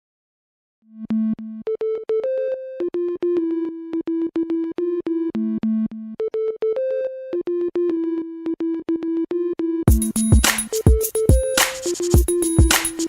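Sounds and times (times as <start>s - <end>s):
synthesizer melody: 1.1s - 13.0s.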